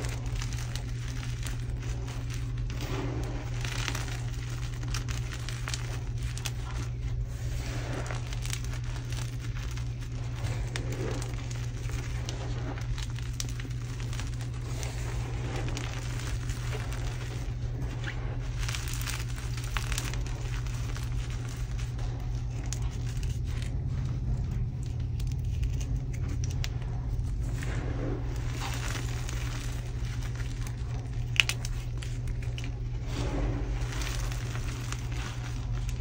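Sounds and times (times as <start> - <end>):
hands crunching chalk powder: 0.0 - 36.0.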